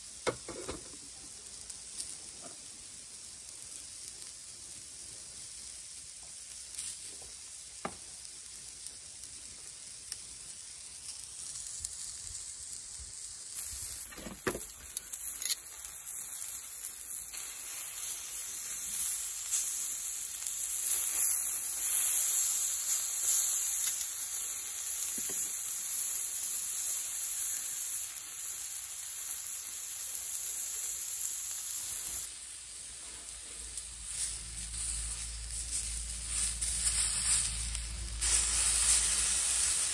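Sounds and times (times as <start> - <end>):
steaks sizzling on grill plate: 0.0 - 39.9.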